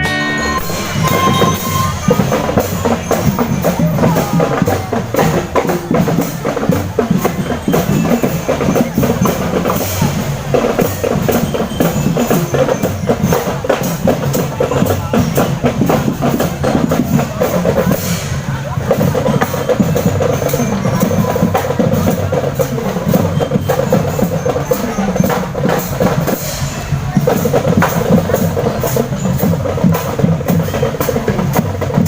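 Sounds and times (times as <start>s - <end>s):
marching drum band: 0.5s - 32.0s.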